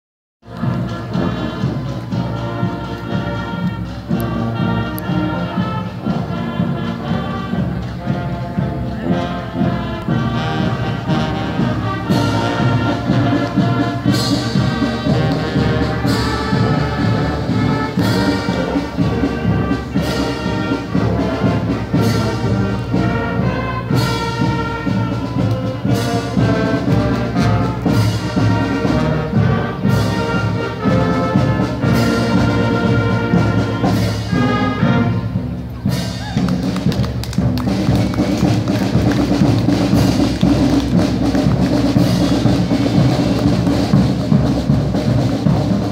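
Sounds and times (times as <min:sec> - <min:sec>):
marching band playing: 0:00.4 - 0:45.9.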